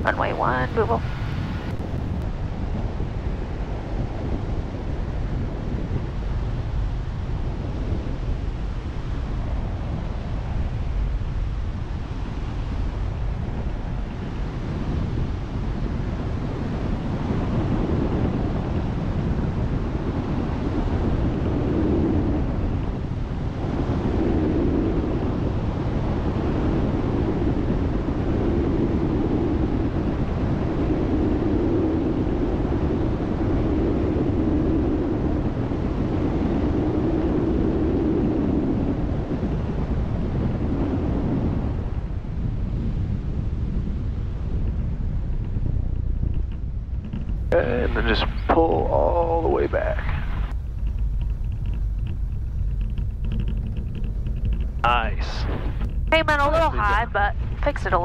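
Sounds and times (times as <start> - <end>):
airflow rushing in cabin: 0.0 - 58.0
small plane engine drone: 1.6 - 58.0.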